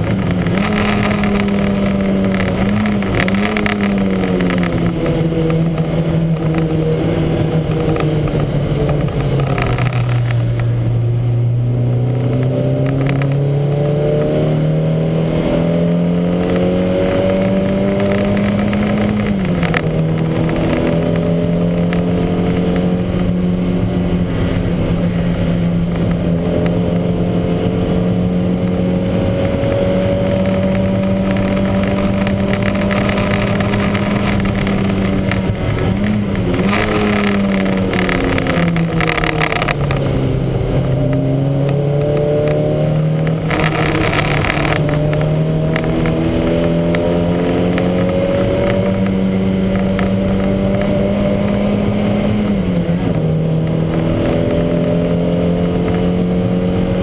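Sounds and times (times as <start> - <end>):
race car engine revving high: 0.0 - 57.0.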